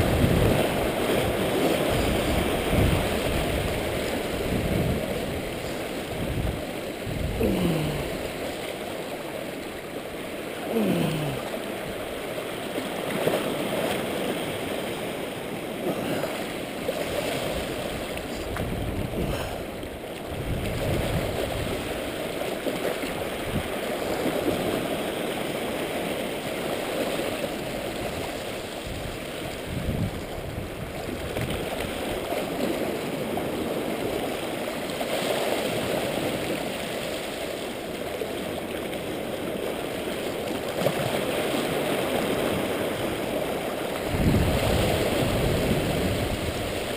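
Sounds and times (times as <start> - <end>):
waves washing over rocks: 0.0 - 46.9.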